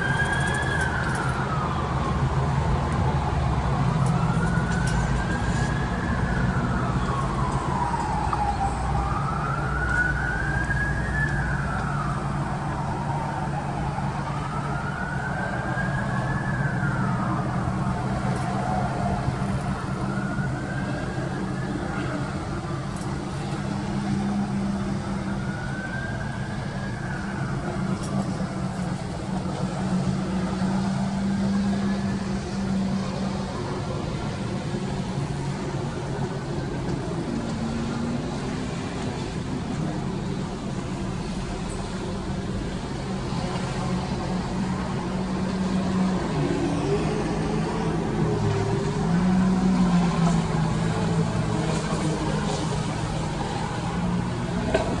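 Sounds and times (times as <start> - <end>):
road traffic rumble: 0.0 - 55.0
siren wailing: 0.0 - 55.0.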